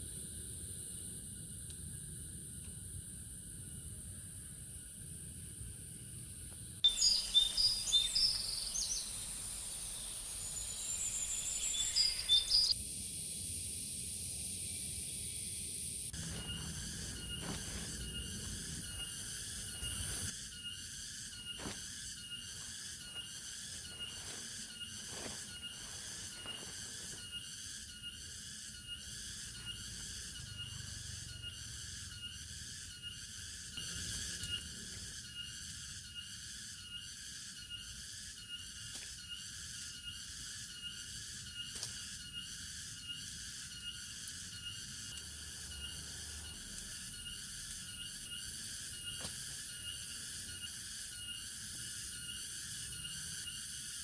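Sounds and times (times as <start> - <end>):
pulsing insect chorus: 0.0 - 54.0
bird chirps: 6.8 - 12.8, 16.2 - 53.8.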